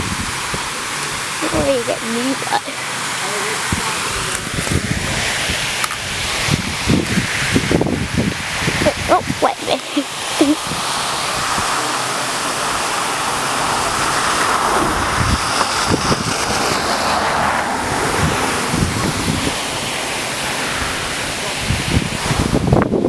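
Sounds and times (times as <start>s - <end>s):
car passing on wet road: 0.0s - 8.8s, 10.0s - 23.0s
water falling onto road: 0.0s - 23.0s
water jet spraying: 0.0s - 23.0s.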